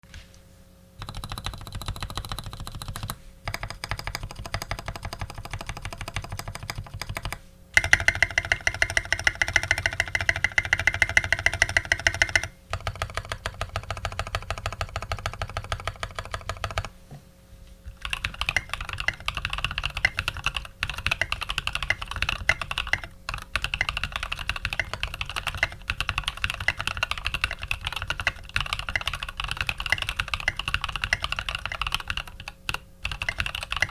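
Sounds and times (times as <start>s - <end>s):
mechanical keyboard typing: 1.0s - 16.9s, 17.9s - 33.9s.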